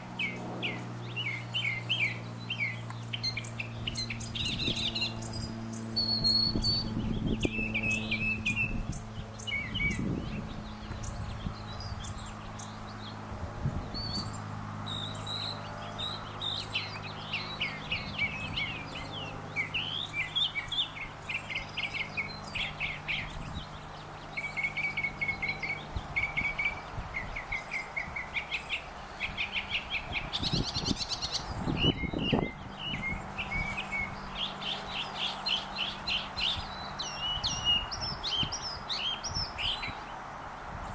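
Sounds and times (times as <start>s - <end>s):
mockingbird singing: 0.0s - 40.1s
steady low hum: 0.0s - 40.9s.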